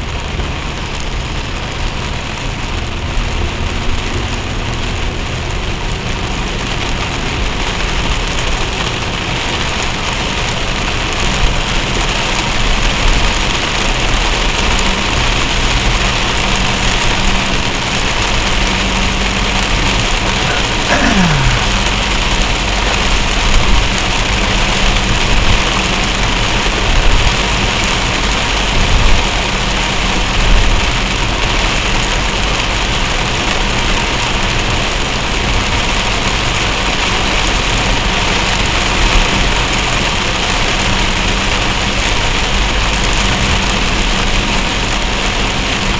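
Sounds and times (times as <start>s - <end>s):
heavy rain: 0.0s - 45.9s
vehicle engines running low: 0.0s - 45.9s.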